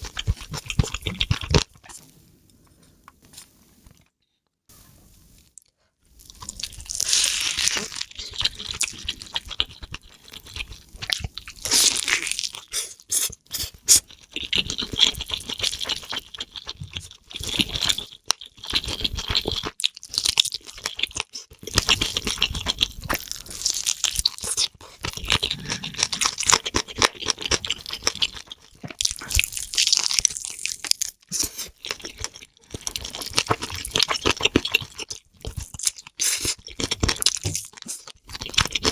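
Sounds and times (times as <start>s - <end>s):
food being chewed and crunched: 0.0s - 2.2s, 5.4s - 38.9s.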